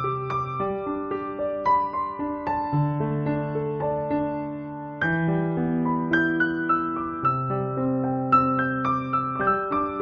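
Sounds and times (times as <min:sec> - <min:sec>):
soft electric piano music: 0:00.0 - 0:10.0.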